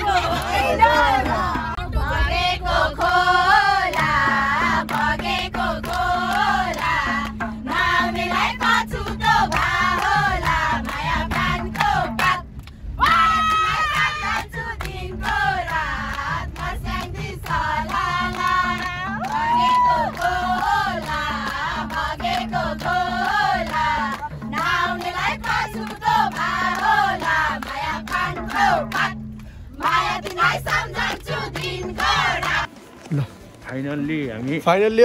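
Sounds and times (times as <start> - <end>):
people singing folk song: 0.0 - 33.3.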